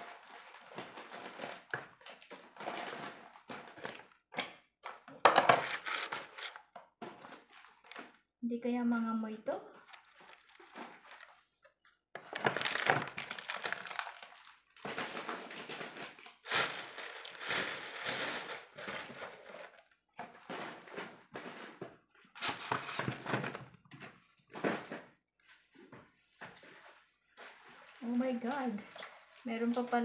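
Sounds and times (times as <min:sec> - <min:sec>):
plastic wrappers crinkling: 0:00.0 - 0:04.2, 0:05.1 - 0:08.2, 0:09.6 - 0:11.5, 0:12.2 - 0:30.0.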